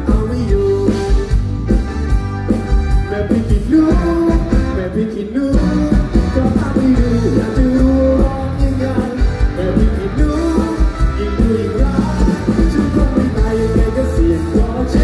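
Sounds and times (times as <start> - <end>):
man singing: 0.0 - 1.4, 2.9 - 15.0
band drums and bass: 0.0 - 15.0.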